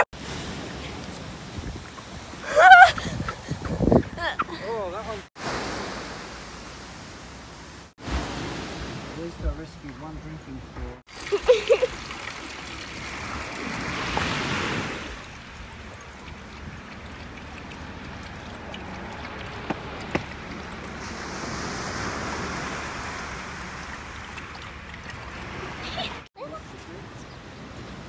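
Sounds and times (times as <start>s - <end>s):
surf washing on beach: 0.0s - 3.6s, 4.2s - 10.0s, 11.1s - 16.0s, 18.9s - 28.0s.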